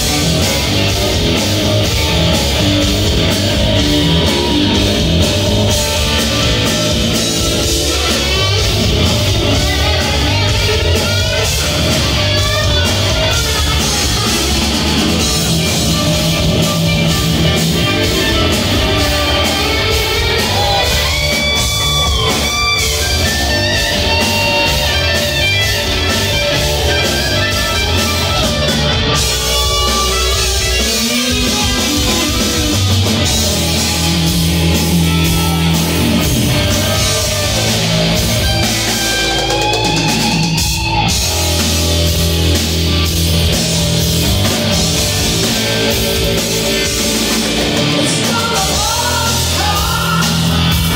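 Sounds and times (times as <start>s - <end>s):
hard rock band playing: 0.0s - 50.9s.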